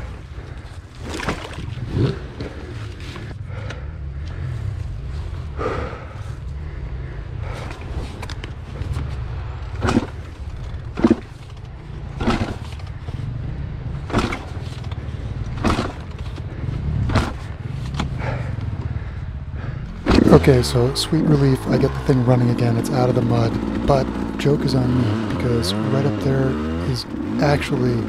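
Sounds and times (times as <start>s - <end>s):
dirt bike engine under load: 0.0s - 4.8s, 6.0s - 19.0s, 19.9s - 28.0s
rider heavy breathing: 0.0s - 28.0s.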